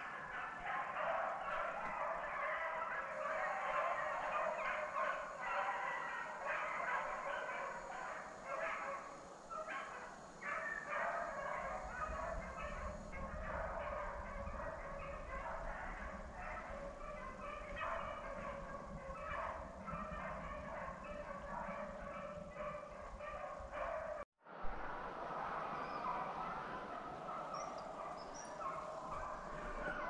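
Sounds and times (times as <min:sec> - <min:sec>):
pack of hounds baying: 0:00.0 - 0:24.2, 0:25.8 - 0:30.0.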